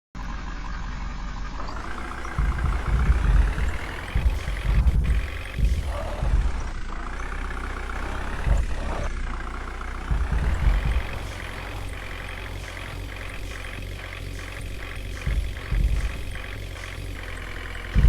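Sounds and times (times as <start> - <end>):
truck engine running: 0.2 - 18.0
heavy low rumbles: 1.6 - 18.0.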